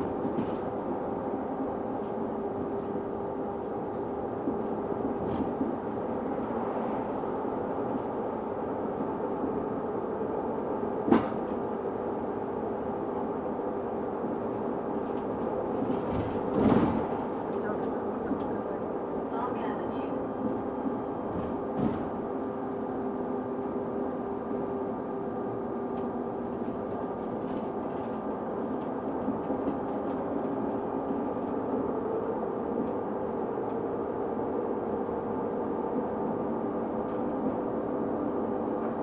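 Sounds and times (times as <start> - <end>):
bus running drone: 0.0 - 39.0.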